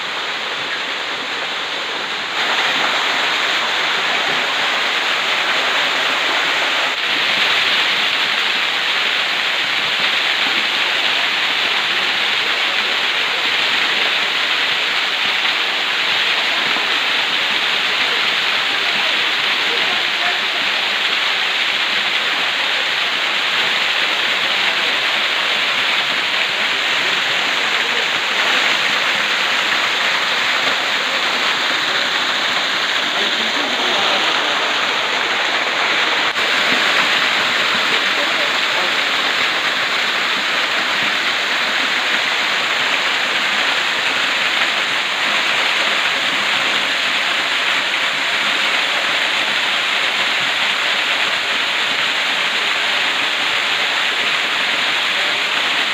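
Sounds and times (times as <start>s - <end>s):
waterfall splashing onto rocks: 0.0s - 55.9s.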